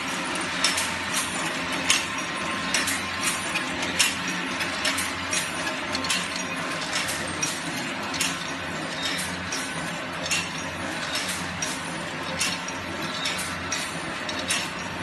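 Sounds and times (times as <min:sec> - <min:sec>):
loom clattering: 0:00.0 - 0:15.0.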